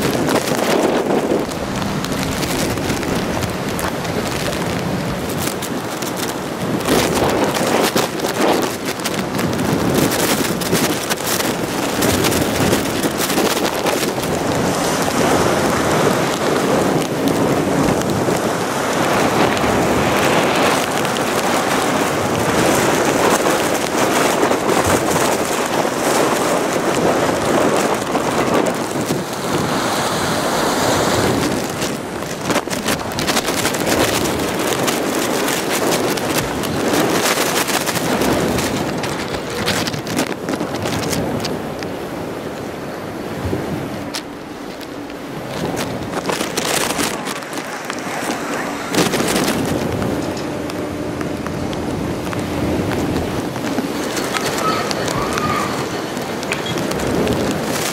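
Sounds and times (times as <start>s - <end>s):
choppy water slapping pilings: 0.0s - 57.9s
storm wind: 0.0s - 57.9s
wind buffeting microphone: 0.0s - 57.9s.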